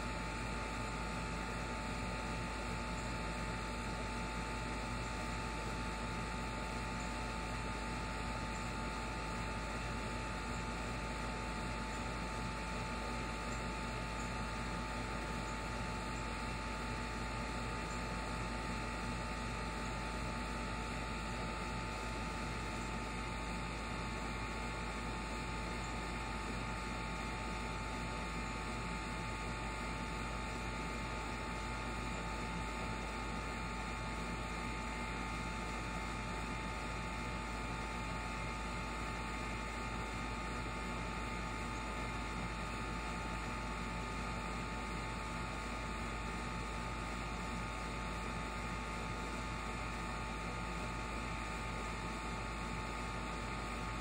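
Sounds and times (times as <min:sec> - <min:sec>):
steady hum with hiss: 0:00.0 - 0:54.0.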